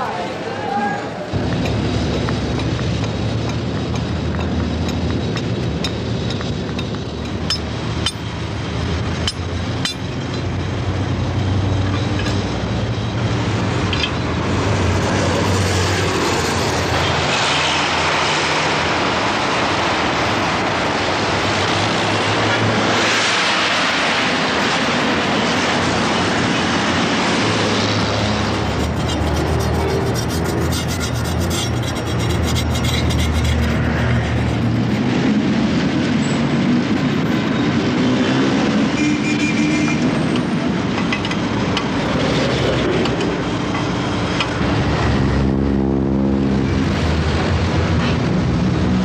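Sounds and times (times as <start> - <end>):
road noise: 0.0 - 49.0
engines humming: 0.1 - 49.0.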